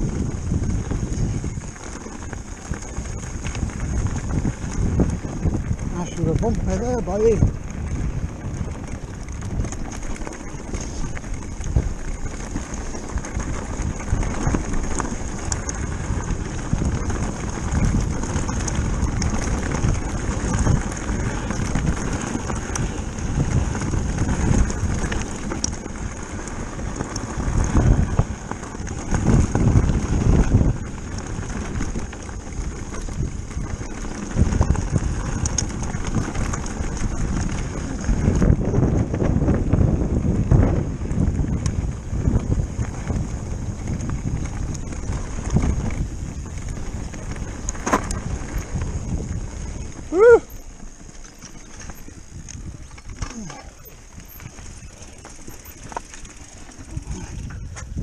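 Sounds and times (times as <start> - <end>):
bike tyres crunching over stones: 0.0 - 58.0
wind buffeting microphone: 0.0 - 58.0.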